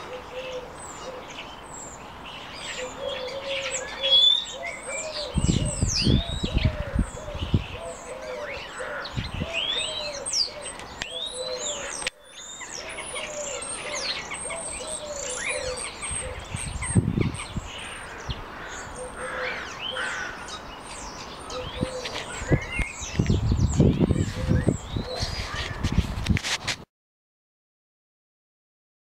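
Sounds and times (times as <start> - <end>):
birds chirping and twittering: 0.0 - 26.4.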